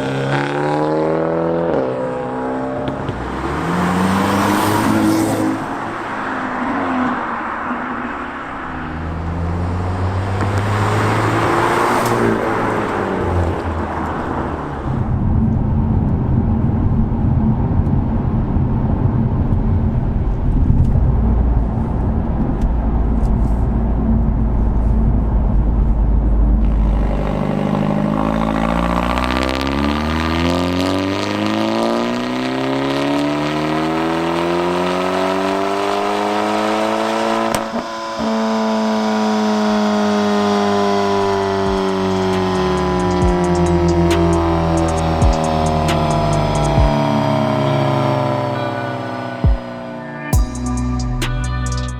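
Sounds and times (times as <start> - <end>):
car exhaust rumble and revving: 0.0 - 51.9.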